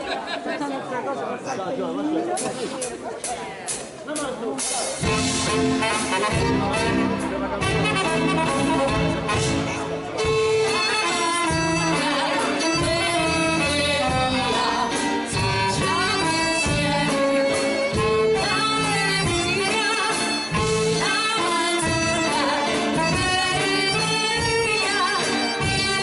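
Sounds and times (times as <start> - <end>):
live band with singer: 0.0 - 26.0.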